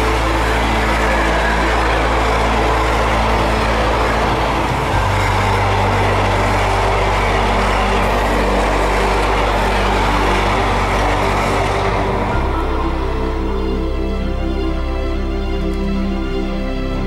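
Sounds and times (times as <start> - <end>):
freight train wheels rumbling: 0.0 - 16.1.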